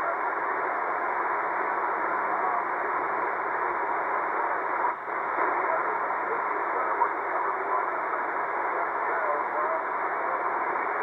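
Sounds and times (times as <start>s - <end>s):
faint voice over radio: 0.0s - 11.0s.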